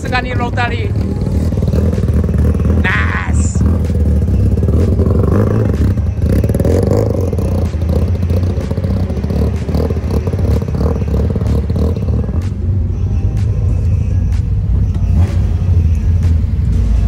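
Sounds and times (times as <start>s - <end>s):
car engine through loud exhaust: 0.0s - 17.0s.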